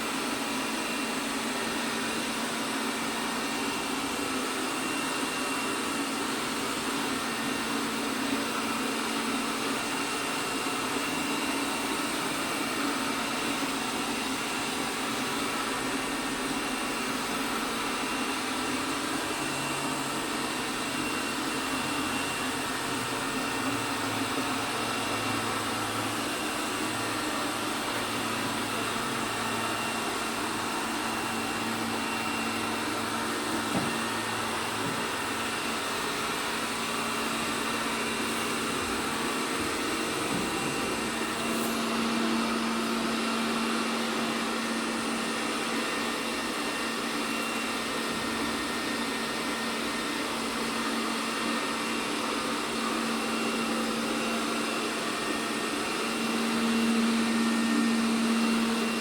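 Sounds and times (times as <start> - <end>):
robot vacuum fan whirring: 0.1 - 59.0.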